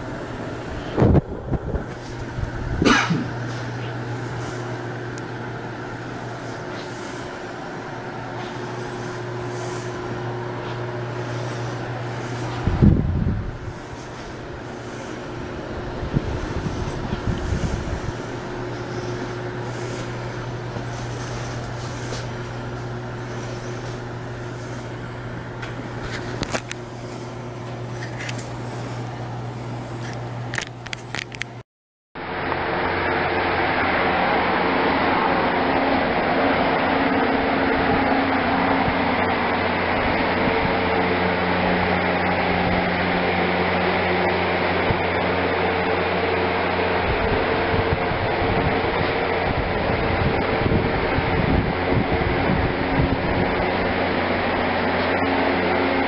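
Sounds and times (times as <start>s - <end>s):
low electrical hum: 0.0s - 31.6s, 32.2s - 56.0s.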